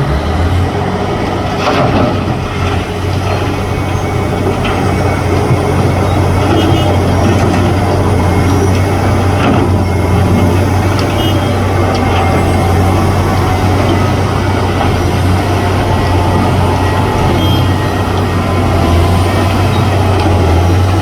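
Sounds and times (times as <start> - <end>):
heavy machinery engine droning: 0.0 - 21.0.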